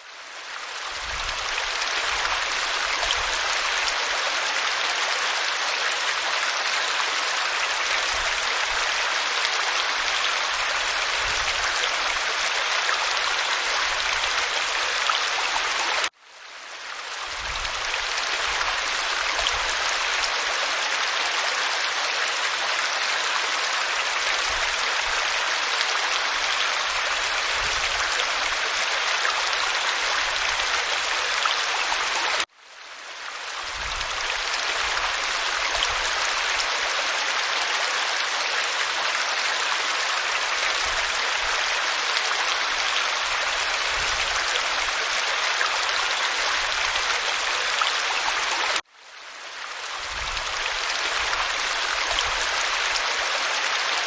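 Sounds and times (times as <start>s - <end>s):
waterfall pouring over rock: 0.0s - 16.2s, 16.8s - 32.5s, 33.1s - 48.9s, 49.5s - 54.0s.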